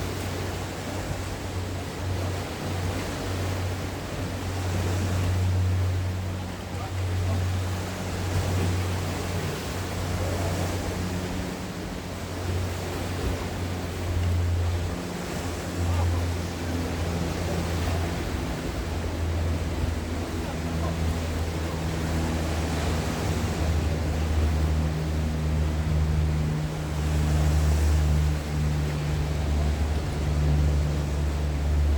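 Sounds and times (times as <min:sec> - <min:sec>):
low steady hum: 0:00.0 - 0:31.9
sea waves washing on shore: 0:00.0 - 0:31.9.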